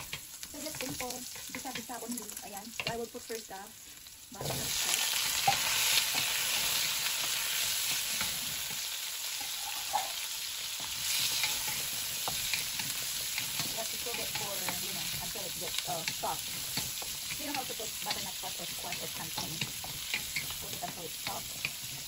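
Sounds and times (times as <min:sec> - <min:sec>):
squash sizzling in oil: 0:00.0 - 0:22.0.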